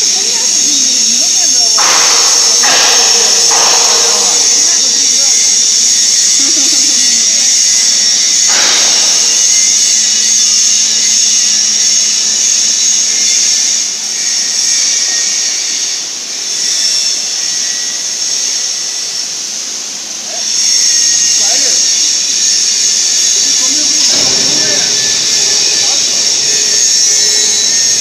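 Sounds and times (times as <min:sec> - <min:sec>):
plasma cutter torch hissing: 0:00.0 - 0:28.0.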